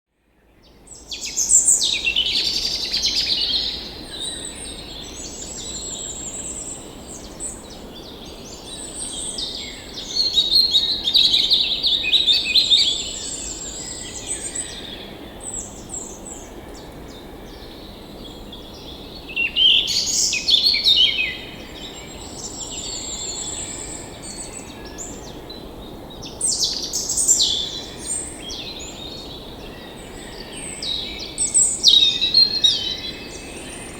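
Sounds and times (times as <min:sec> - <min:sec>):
songbirds singing and chirping: 0:00.4 - 0:33.9.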